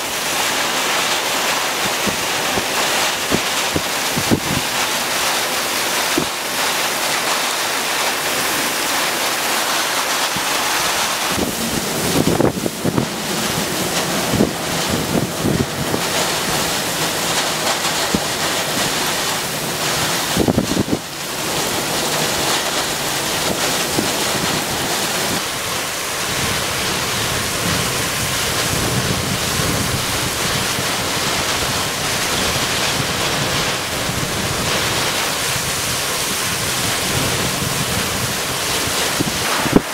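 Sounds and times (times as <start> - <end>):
rough sea: 0.0 - 39.9
wind buffeting microphone: 1.8 - 6.4, 9.6 - 39.9.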